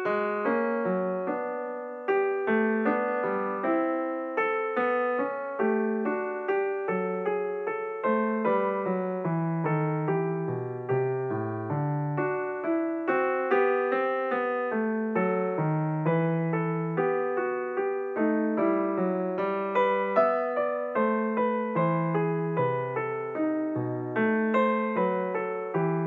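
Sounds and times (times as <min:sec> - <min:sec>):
gentle piano music: 0:00.0 - 0:26.0.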